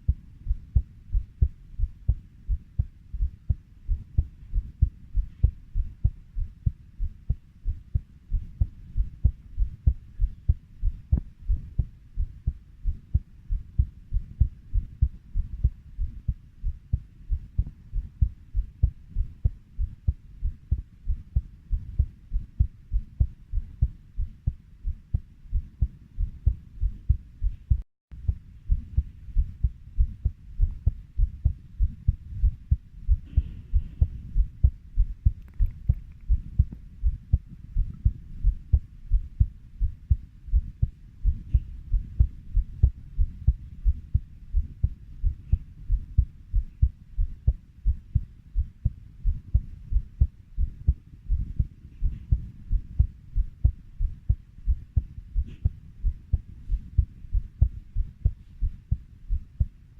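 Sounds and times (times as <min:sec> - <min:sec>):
heartbeat thumps: 0:00.0 - 0:59.8.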